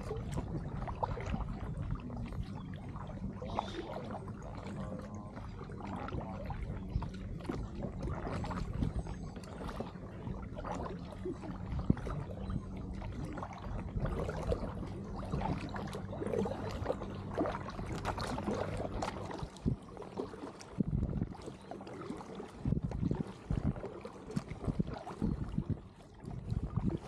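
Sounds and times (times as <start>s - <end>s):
paddle pulling through water: 0.0s - 27.0s
steady low hum: 0.0s - 27.0s
water splashes and drips: 0.0s - 27.0s.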